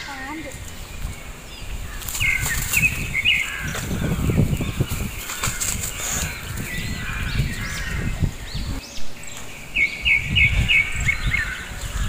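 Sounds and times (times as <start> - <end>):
birds chirping and calling: 0.0 - 12.0
low rumble on microphone: 0.5 - 12.0.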